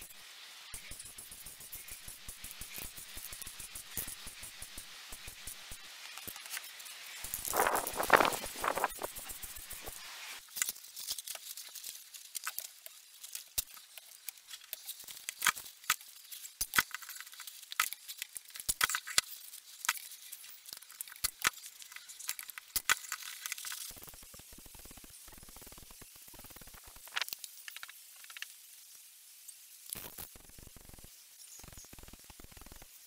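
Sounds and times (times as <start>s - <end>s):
faint hiss: 0.0s - 33.0s.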